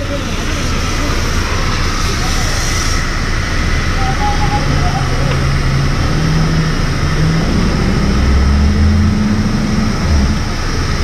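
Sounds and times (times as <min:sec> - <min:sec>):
water hoses spraying: 0:00.0 - 0:11.0.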